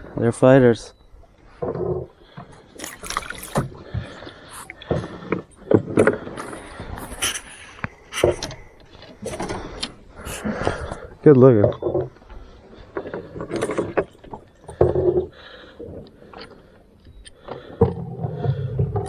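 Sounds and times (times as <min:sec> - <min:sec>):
knocks taps and scrapes in boat: 0:00.0 - 0:19.0.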